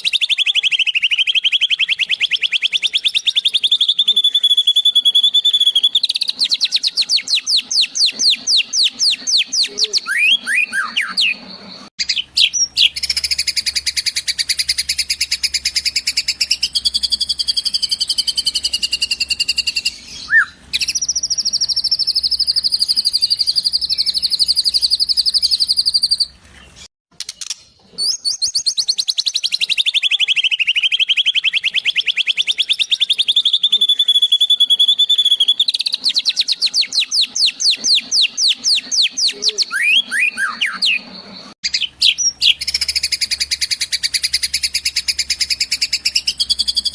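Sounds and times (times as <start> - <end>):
bird trills and rattling calls: 0.0 - 46.9.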